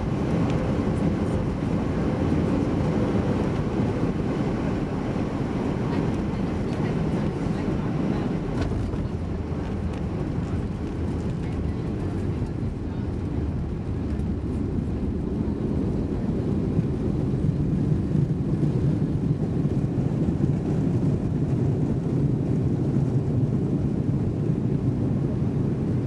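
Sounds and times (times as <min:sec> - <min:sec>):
airplane cabin rumble taxiing: 0:00.0 - 0:26.0.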